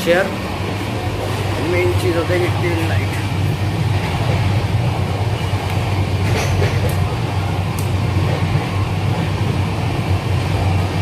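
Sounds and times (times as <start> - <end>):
train cabin rumble and hum: 0.0 - 11.0.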